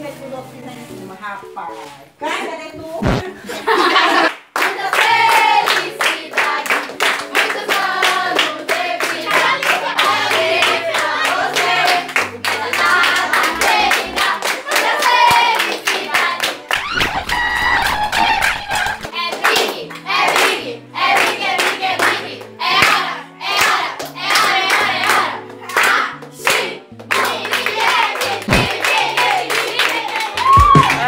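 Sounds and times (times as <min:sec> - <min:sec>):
group singing birthday song: 0:03.0 - 0:16.9, 0:18.2 - 0:30.4
rhythmic handclapping: 0:04.2 - 0:31.0.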